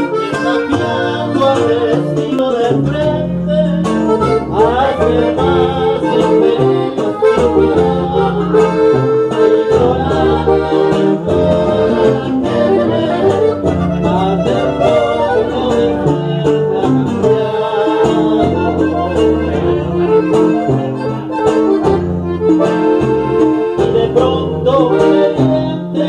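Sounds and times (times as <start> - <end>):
man singing into microphone: 0.0 - 21.6, 23.8 - 26.0
accordion: 0.0 - 26.0
strummed string instrument: 0.0 - 26.0.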